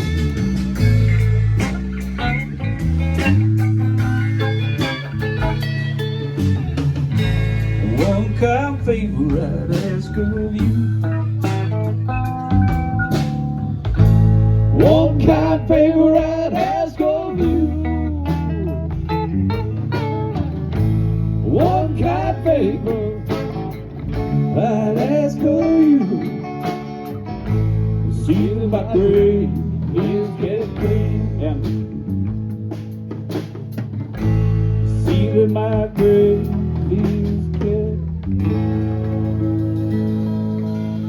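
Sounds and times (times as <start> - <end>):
bending lead guitar: 0.0 - 41.0
live blues band: 0.0 - 41.0.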